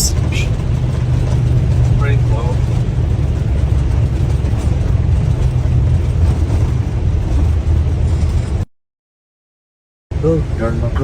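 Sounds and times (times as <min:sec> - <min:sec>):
airliner cockpit rumble: 0:00.0 - 0:08.7, 0:10.1 - 0:11.0.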